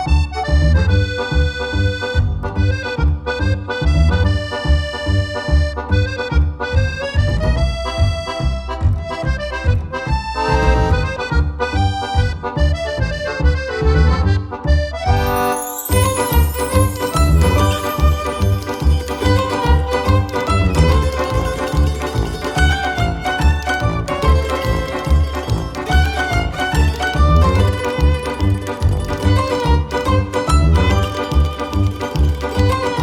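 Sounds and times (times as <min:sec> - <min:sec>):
accordion-like melody: 0:00.0 - 0:33.0.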